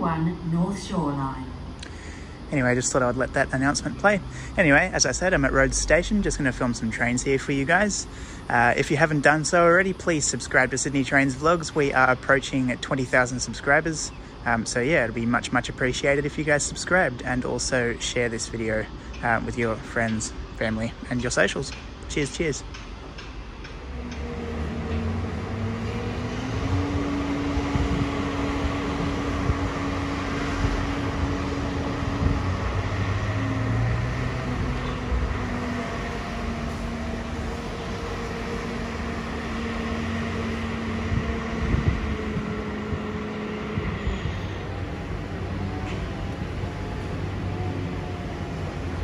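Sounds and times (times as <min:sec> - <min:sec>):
electric train traction hum: 0:00.0 - 0:49.0
train rumble: 0:00.0 - 0:49.0.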